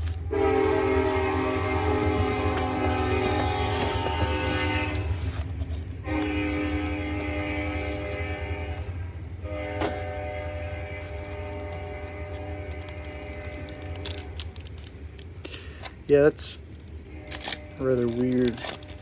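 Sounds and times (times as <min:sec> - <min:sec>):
train horn blasts: 0:00.0 - 0:14.6, 0:17.0 - 0:19.0.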